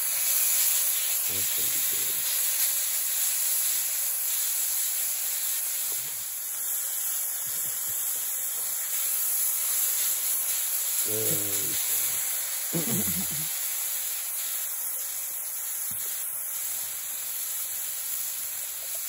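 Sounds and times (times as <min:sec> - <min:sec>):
hash browns sizzling on griddle: 0:00.0 - 0:19.0.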